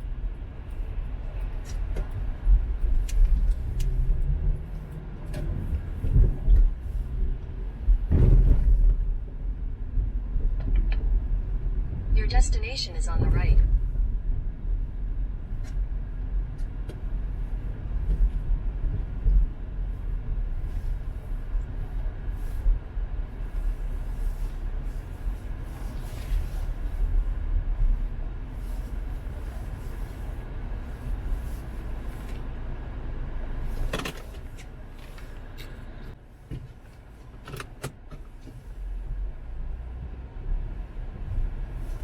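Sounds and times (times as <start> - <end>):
car cabin engine rumble: 0.0 - 42.0.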